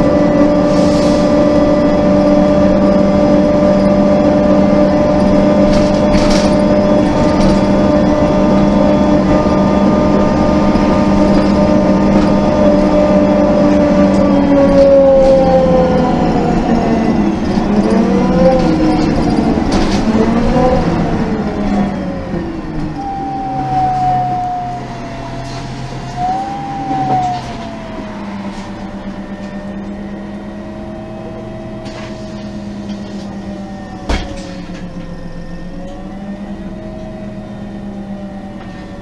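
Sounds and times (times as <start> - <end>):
bus engine pulling: 0.0 - 39.0
whine drifting in pitch: 0.0 - 39.0.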